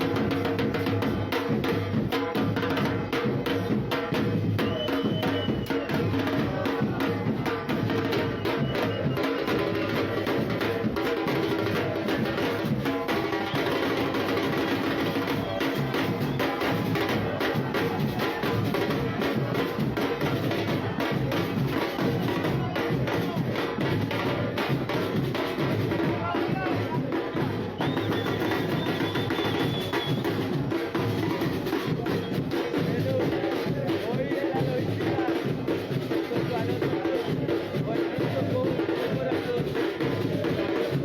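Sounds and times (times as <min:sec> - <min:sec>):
drum band playing: 0:00.0 - 0:41.0.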